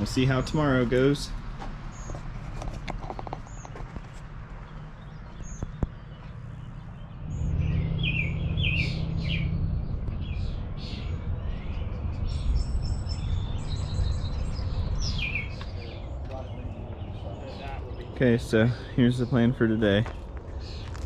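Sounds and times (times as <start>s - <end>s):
small birds chirping: 0.0s - 21.0s
steady low rumble: 4.0s - 21.0s.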